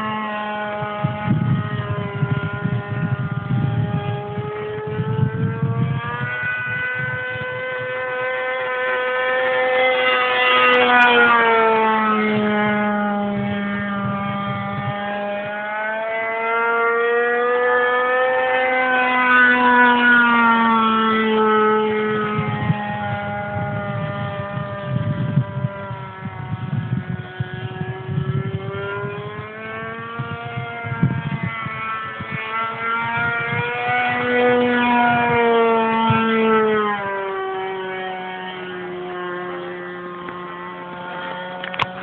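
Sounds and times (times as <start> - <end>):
model airplane engine buzzing: 0.0 - 42.0.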